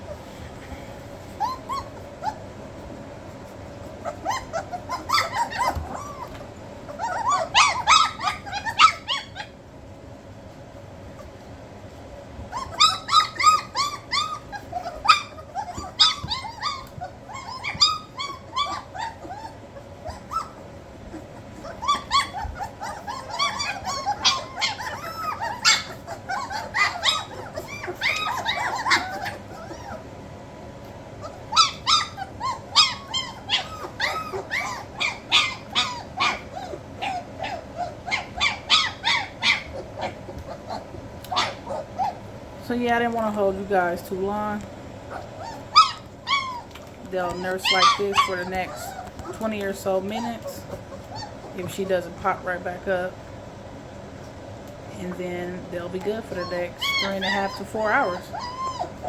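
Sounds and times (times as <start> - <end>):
puppies whimpering and squealing: 0.0 - 59.0.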